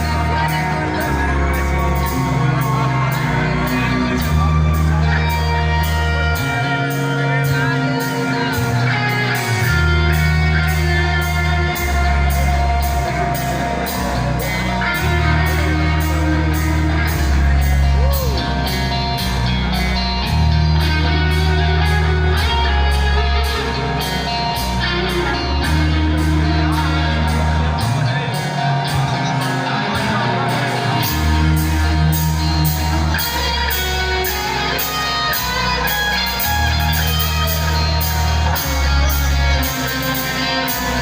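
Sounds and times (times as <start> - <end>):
heavy metal band playing: 0.0 - 41.0.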